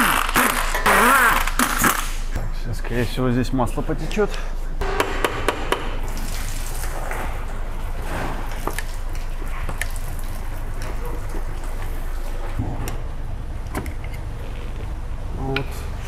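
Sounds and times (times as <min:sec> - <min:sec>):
low workshop hum: 0:00.0 - 0:16.0.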